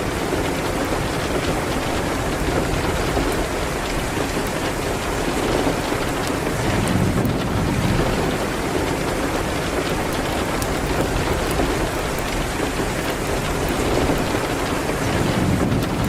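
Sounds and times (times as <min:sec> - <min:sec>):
rain pattering on a window: 0:00.0 - 0:16.0
ticks of raindrops: 0:00.0 - 0:16.0.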